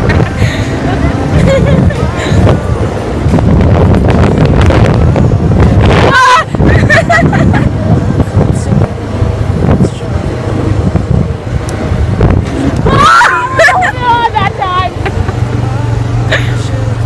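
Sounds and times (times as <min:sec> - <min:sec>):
quad engine running: 0:00.0 - 0:17.0
wind rumble on microphone: 0:00.0 - 0:17.0.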